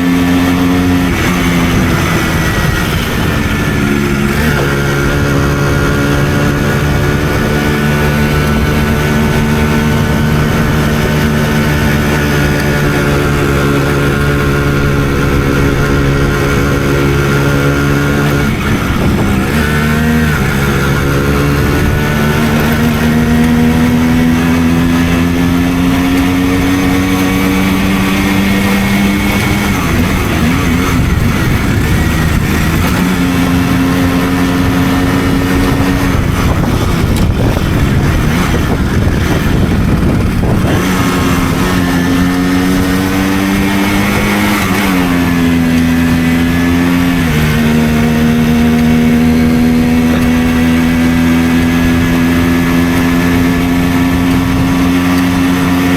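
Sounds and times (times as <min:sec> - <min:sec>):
moped two-stroke engine running: 0:00.0 - 0:55.9.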